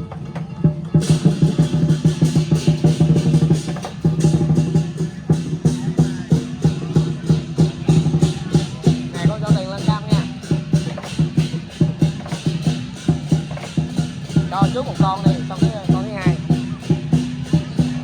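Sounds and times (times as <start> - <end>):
drum and cymbals fast beat: 0.0 - 18.0.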